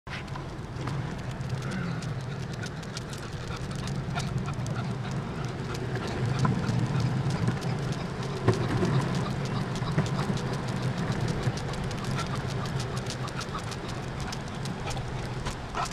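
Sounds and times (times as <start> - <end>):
longboard wheels rolling on asphalt: 0.1 - 15.9.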